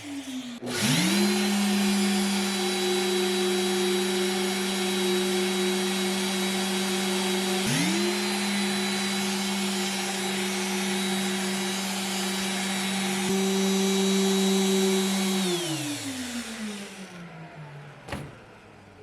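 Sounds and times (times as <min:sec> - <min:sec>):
electric sander motor: 0:00.0 - 0:17.7.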